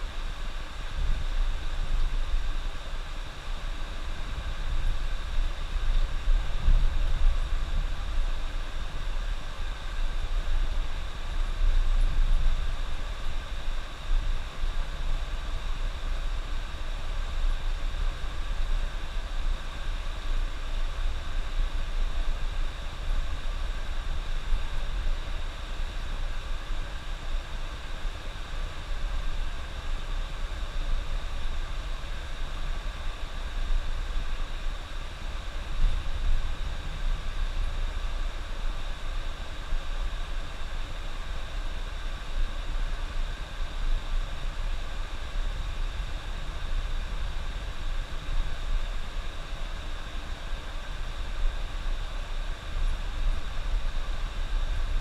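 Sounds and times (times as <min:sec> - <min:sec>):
road noise hiss: 0:00.0 - 0:55.0.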